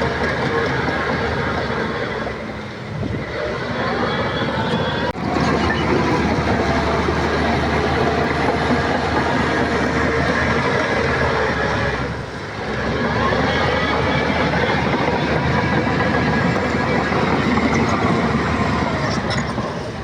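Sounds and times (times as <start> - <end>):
bulldozer diesel engine running: 0.0 - 20.0
clatter of tracks: 0.0 - 20.0.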